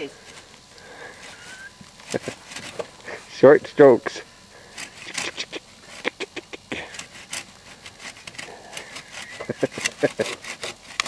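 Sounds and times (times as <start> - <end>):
hand saw cutting a log: 0.2 - 3.2, 4.6 - 11.0.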